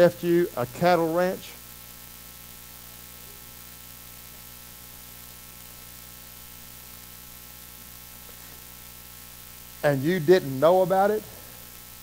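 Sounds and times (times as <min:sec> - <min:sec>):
constant hiss: 0:00.0 - 0:12.0
electrical mains hum: 0:00.0 - 0:12.0.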